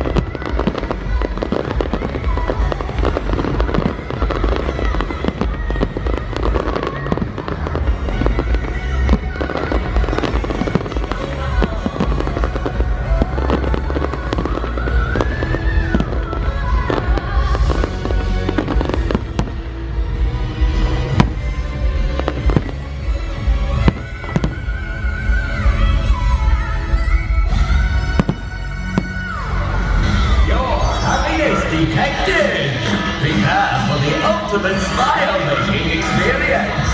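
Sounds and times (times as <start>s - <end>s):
fireworks bangs and crackles: 0.0s - 26.6s, 27.2s - 36.9s
music playing: 0.0s - 36.9s.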